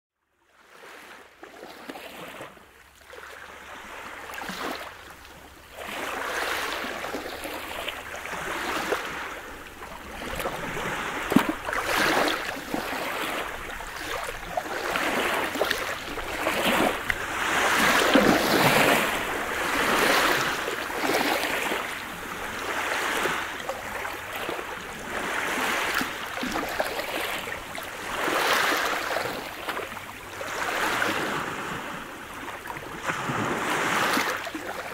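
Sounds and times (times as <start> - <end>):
waves washing over pebble beach: 5.8 - 34.9.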